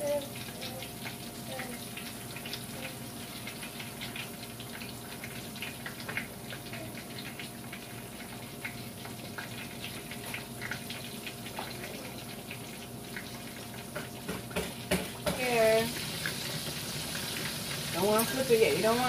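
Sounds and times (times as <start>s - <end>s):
chicken sizzling in oil: 0.0s - 19.0s.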